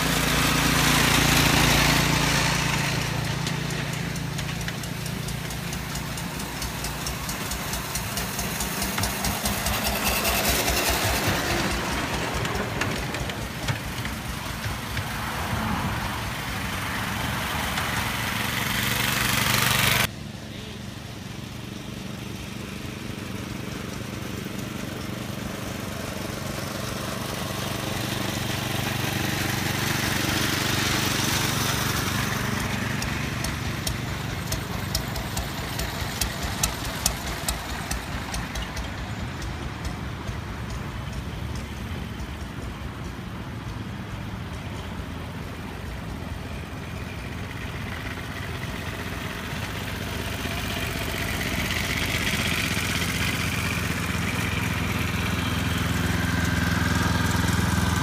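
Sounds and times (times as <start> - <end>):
small locomotive engine running: 0.0 - 58.0.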